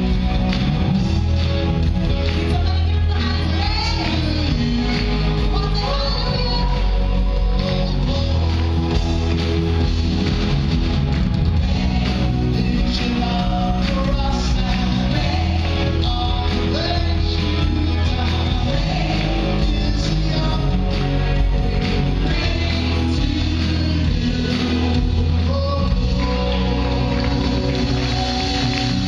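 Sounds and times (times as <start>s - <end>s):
live band playing: 0.0s - 29.0s
people singing: 2.5s - 9.2s, 11.6s - 29.0s.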